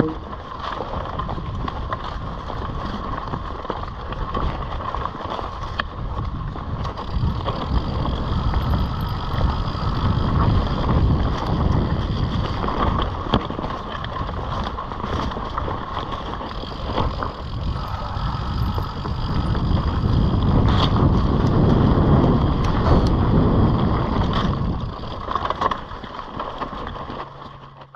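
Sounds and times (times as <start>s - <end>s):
wind on microphone: 0.0s - 26.0s
bike rattling over bumps: 0.0s - 27.9s
bike tyre rumble on dirt: 0.0s - 27.9s.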